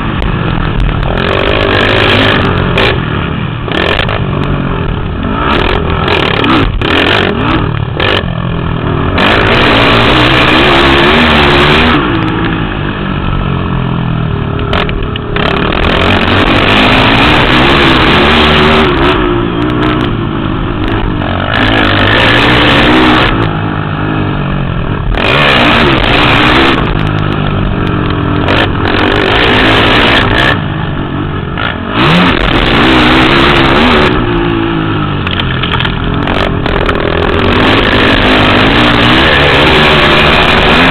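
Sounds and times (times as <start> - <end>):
quad engines revving loudly: 0.0 - 40.9.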